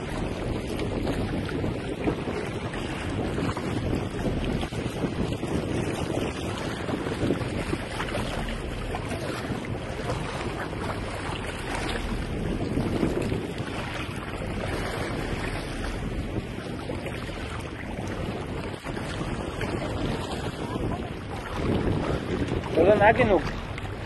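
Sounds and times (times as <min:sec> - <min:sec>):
sea water rushing along boat: 0:00.0 - 0:24.0
wind buffeting microphone: 0:00.0 - 0:24.0.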